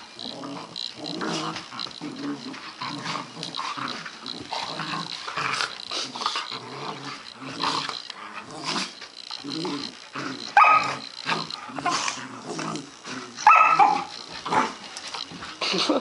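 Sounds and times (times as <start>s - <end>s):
puppies growling: 0.0s - 16.0s.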